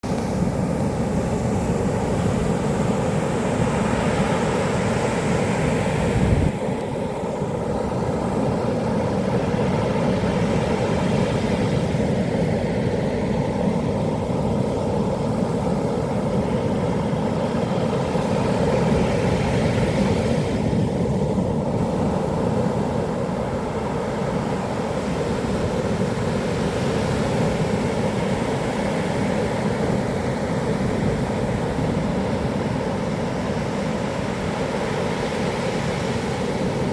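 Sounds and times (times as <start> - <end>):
heavy surf waves breaking: 0.0 - 36.9.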